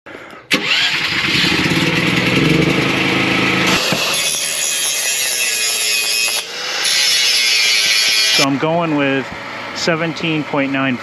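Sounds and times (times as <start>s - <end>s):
low buzz: 0.5s - 10.1s.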